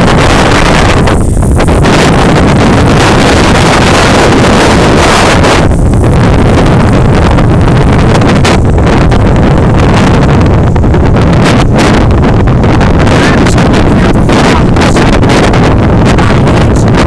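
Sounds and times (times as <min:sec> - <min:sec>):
wind blasting microphone: 0:00.0 - 0:17.0.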